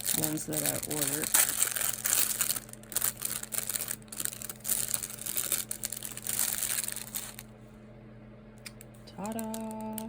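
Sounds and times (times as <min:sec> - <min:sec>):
packaging crinkling and rustling: 0:00.0 - 0:07.5, 0:09.2 - 0:10.0.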